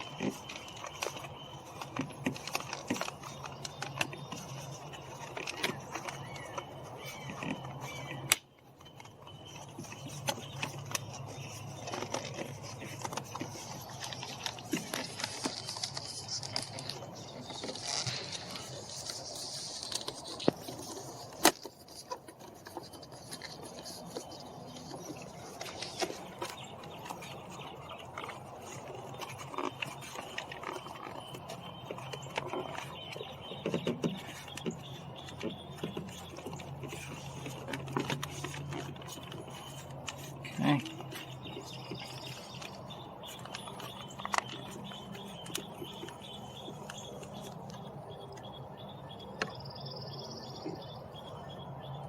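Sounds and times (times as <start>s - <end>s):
faint birds chirping: 0.0s - 52.0s.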